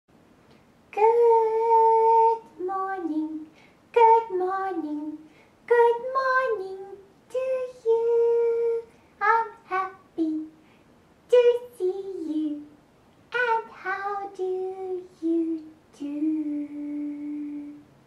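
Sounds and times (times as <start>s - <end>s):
woman singing in childlike voice: 0.9s - 10.6s, 11.3s - 17.9s.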